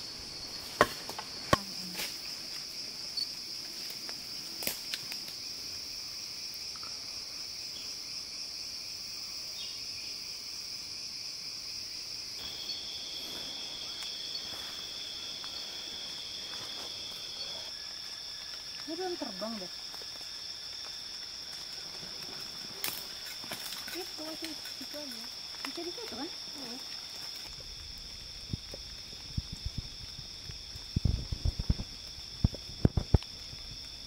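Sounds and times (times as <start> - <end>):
high-pitched insect drone: 0.0 - 34.0
lower insect drone: 0.0 - 34.0.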